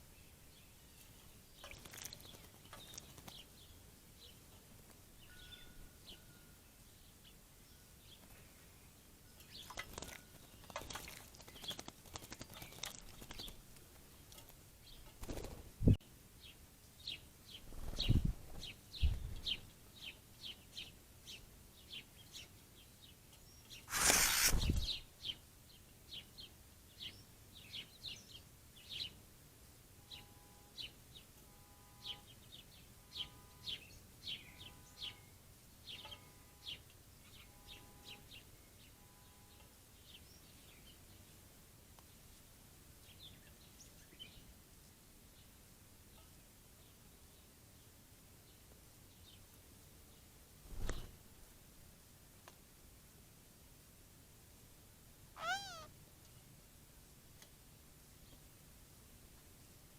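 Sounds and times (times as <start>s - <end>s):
small songbirds chirping: 0.0s - 23.9s, 24.5s - 51.1s, 55.4s - 56.6s.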